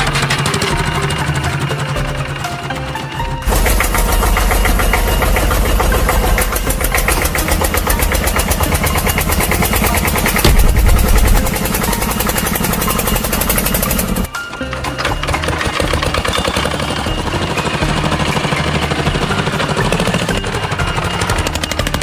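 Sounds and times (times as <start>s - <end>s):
diesel excavator engine running: 0.0s - 22.0s.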